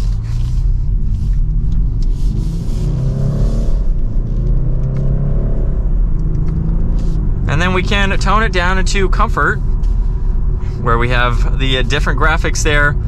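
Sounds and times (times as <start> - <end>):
car engine accelerating: 0.0 - 13.0
low road rumble: 0.0 - 13.0.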